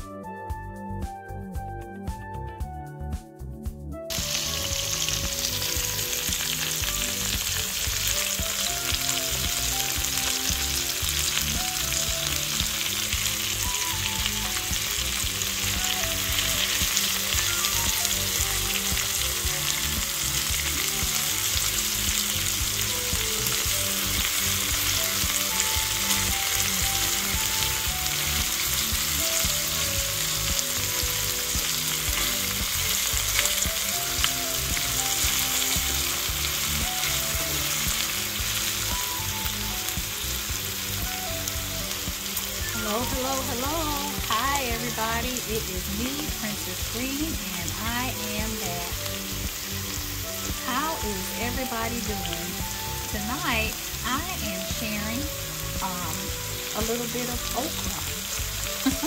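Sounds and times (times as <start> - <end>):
vegetables sizzling in hot oil: 4.1 - 59.0.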